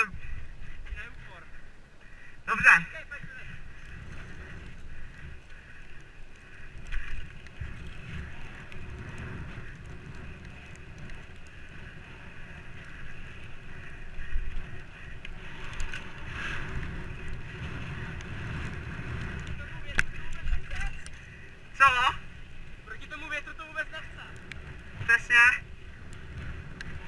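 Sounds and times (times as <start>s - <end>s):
bicycle tyres on asphalt: 0.0s - 27.0s
wind rumbling on microphone: 0.0s - 27.0s.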